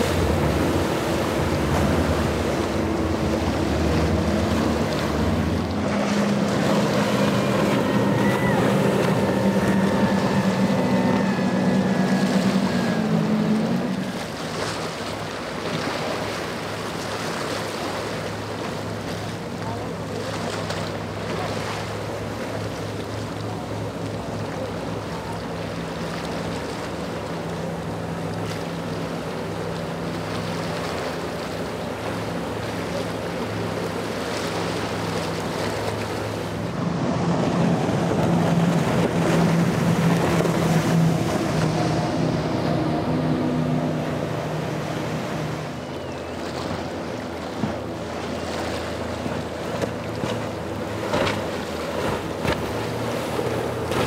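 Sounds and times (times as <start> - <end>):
hull spray and waves rushing: 0.0 - 54.0
outboard motors droning: 0.0 - 54.0.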